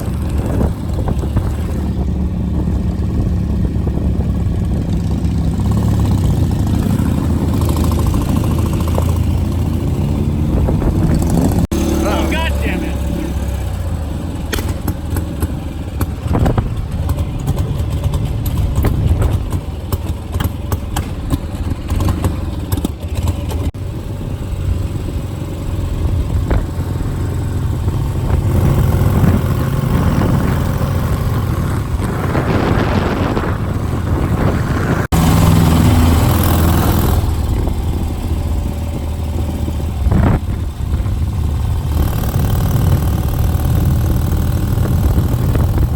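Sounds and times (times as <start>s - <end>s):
motorcycle engines running: 0.0s - 45.9s.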